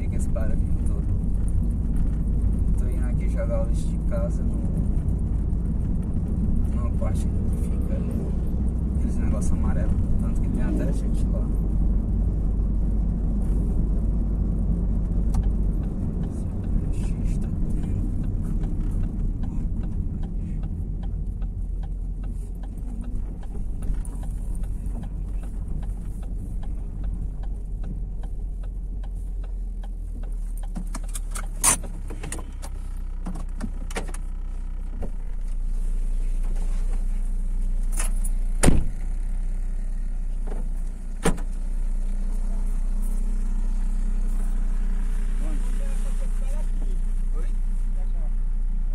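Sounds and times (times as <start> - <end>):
road and engine rumble: 0.0 - 48.9.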